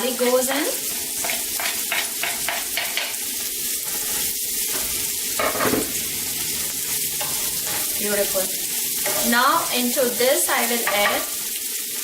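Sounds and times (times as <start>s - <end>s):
garlic sizzling in butter: 0.0s - 12.0s
stirring strokes in pan: 0.0s - 12.0s.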